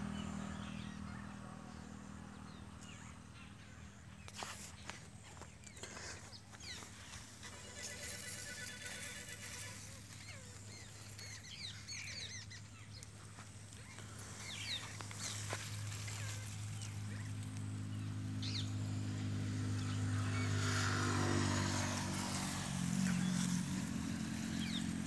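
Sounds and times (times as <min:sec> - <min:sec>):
engine hum: 0:00.0 - 0:25.0
small birds chirping: 0:00.0 - 0:25.0.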